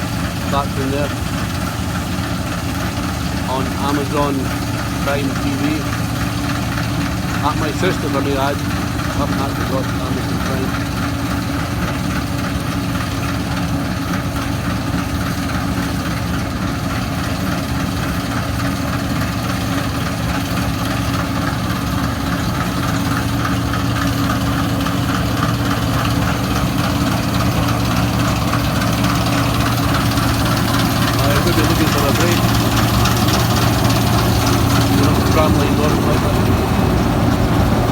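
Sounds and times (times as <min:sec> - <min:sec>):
combine harvester running: 0:00.0 - 0:37.9.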